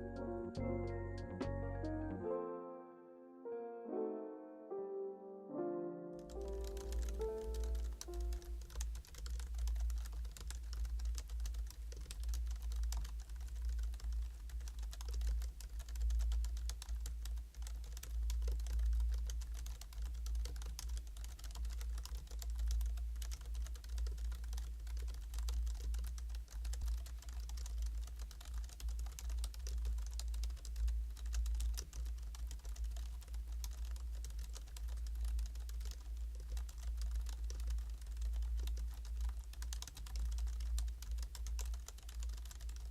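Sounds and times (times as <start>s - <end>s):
soft keyboard typing: 0.0s - 2.2s, 6.1s - 42.9s.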